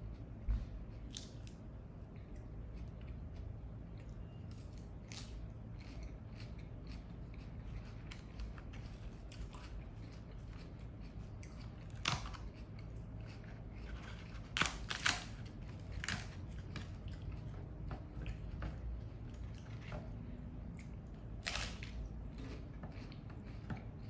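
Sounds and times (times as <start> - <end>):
chewing: 0.9 - 24.0
crunches of fried shell: 4.5 - 24.0.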